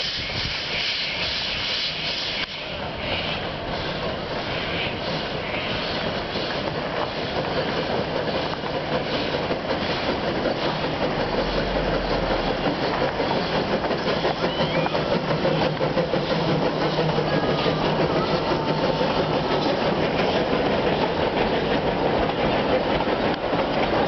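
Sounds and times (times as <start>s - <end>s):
steam train running on track: 0.0s - 24.0s.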